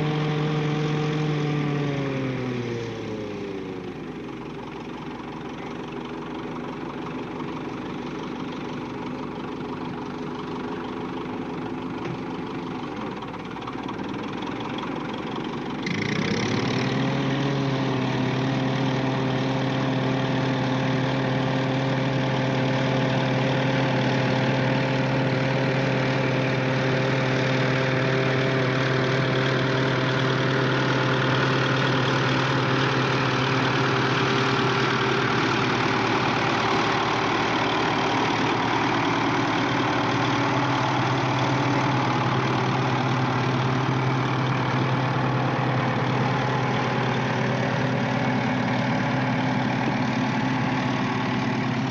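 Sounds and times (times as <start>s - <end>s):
tank engine running: 0.0s - 51.9s.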